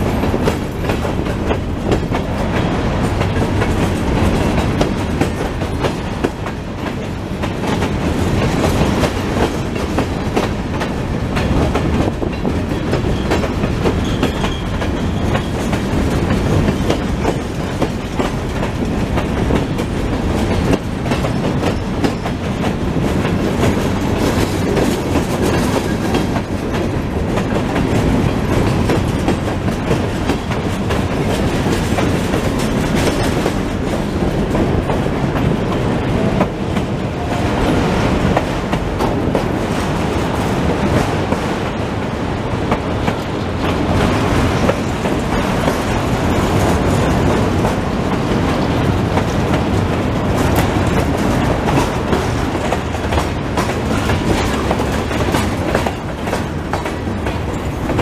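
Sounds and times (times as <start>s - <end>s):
steel wheels rumbling on rail: 0.0s - 58.0s
wheels clacking on rail joints: 0.0s - 58.0s.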